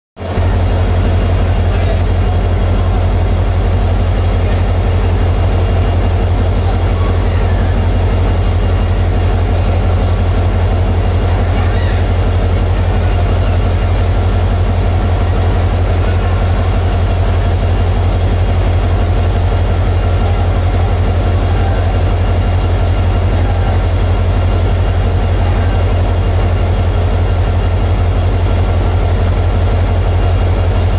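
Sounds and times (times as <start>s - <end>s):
diesel locomotive engine idling: 0.2s - 30.9s.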